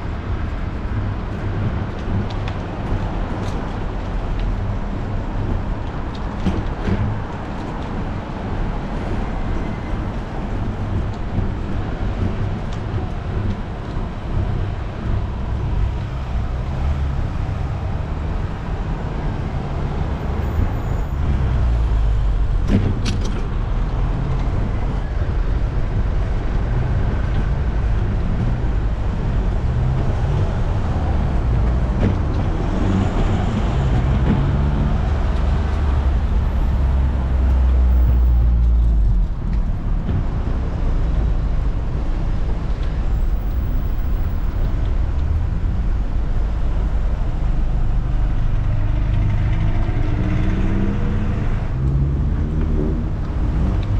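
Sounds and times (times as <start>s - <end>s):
cars passing: 0.0s - 53.9s.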